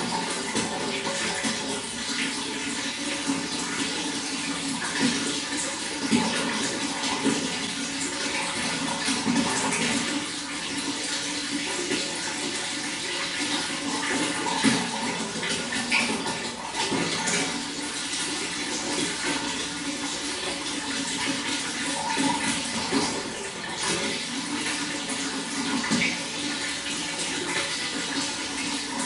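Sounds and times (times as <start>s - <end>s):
running water: 0.0s - 29.0s.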